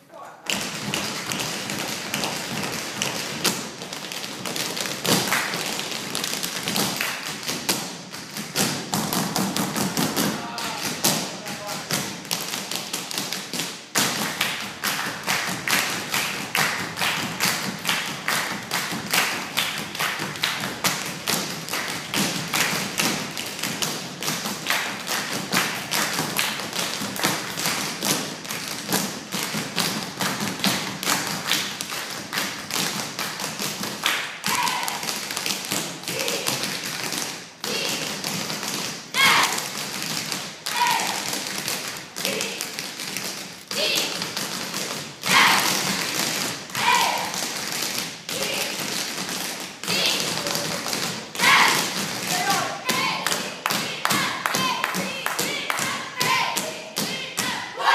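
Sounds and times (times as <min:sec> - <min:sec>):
tap shoes on stage floor: 0:00.4 - 0:57.6.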